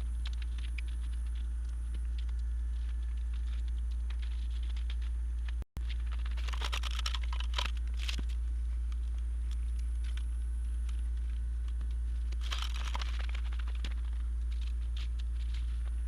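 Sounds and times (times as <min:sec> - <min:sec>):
steady low rumble: 0:00.0 - 0:16.0
tarp and tape crackling: 0:00.0 - 0:16.0.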